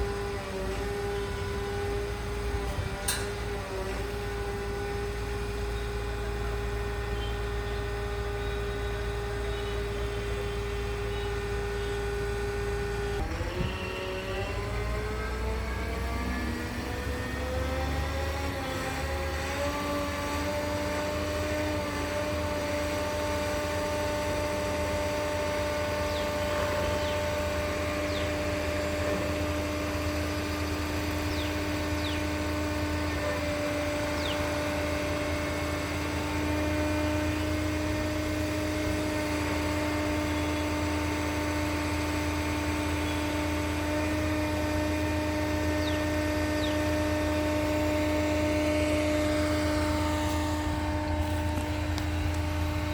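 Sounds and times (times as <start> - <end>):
pump engine running steadily: 0.0 - 52.9.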